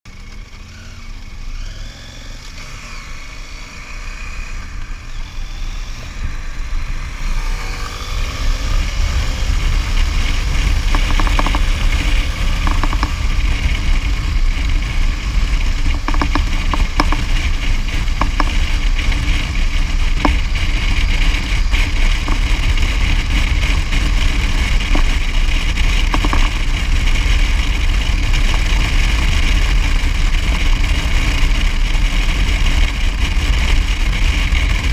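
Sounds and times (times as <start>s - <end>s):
motorcycle engine and road rumble: 0.1s - 34.9s
wind buffeting microphone: 5.0s - 34.9s.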